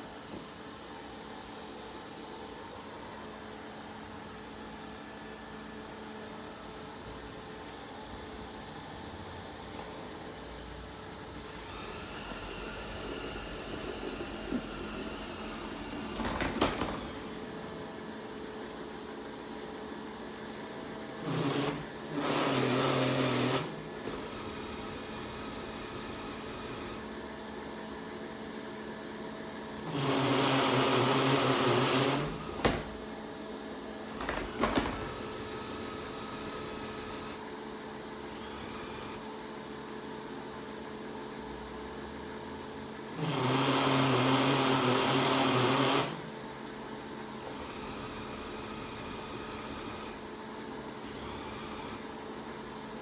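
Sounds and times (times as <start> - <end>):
robot vacuum cleaner running: 0.0 - 41.4, 42.6 - 53.0.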